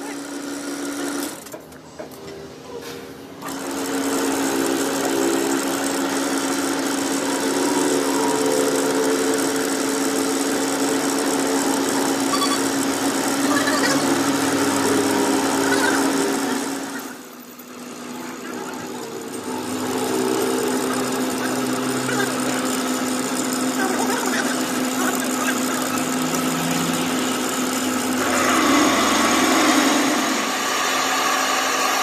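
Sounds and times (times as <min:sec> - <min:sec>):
electric machine motor humming: 0:00.0 - 0:02.6, 0:03.2 - 0:32.0.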